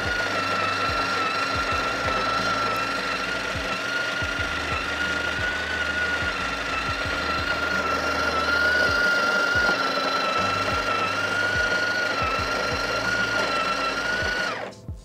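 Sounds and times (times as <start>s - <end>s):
coffee grinder motor whine: 0.0s - 14.9s.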